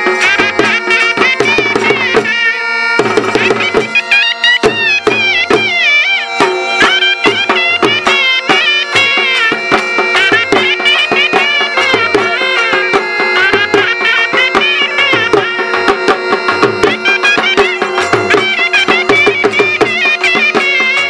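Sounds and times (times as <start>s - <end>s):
dhol drum beaten with sticks: 0.0s - 21.0s
reed wind instrument melody: 0.0s - 21.0s.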